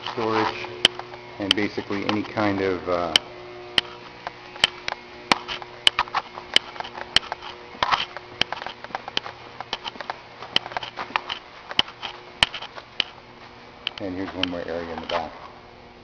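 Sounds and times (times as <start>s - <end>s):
footsteps clicking: 0.0s - 15.5s
faint steady hum: 0.0s - 16.0s.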